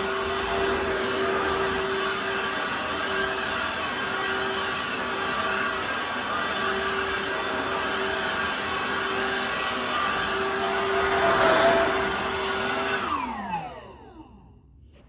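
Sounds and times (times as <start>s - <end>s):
vacuum motor whining: 0.0s - 14.4s.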